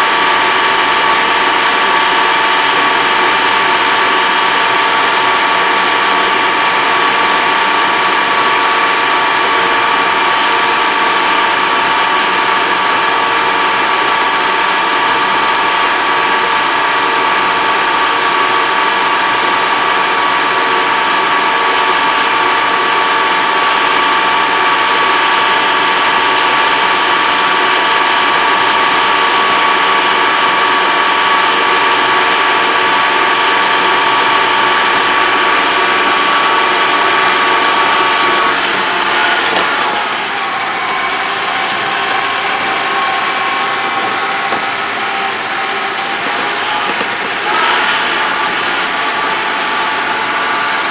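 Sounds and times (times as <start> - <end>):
high-pitched drivetrain whine: 0.0 - 50.9
tractor engine drone: 0.0 - 50.9.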